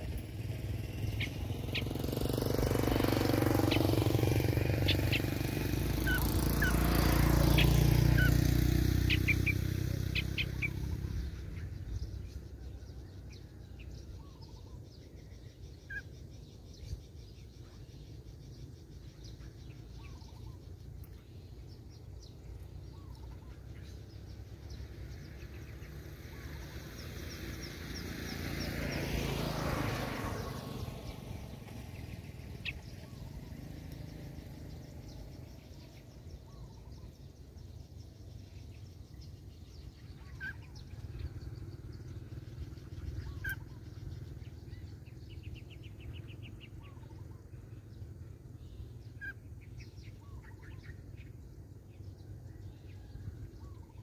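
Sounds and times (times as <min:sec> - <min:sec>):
bird chirps: 0:00.0 - 0:54.0
vehicle passing rumble: 0:00.0 - 0:54.0.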